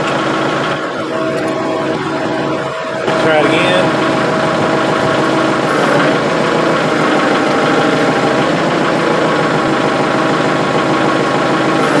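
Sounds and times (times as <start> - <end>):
tractor engine running steadily: 0.0 - 12.0.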